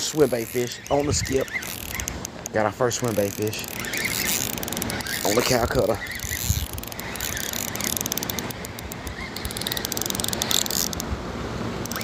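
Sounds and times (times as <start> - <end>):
fishing reel ticking: 0.0 - 11.1.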